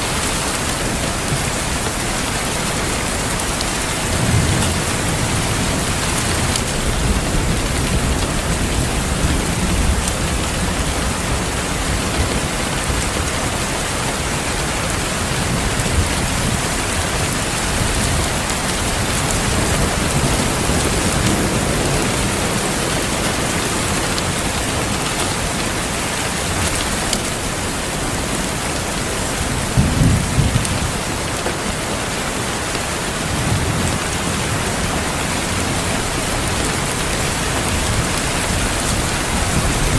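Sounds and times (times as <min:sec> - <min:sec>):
heavy rain: 0:00.0 - 0:39.9
thunder rumbling: 0:00.1 - 0:39.9.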